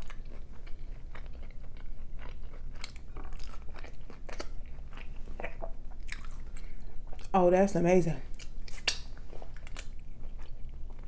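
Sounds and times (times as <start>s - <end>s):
person chewing with crunches: 0.0s - 7.4s, 8.3s - 11.0s.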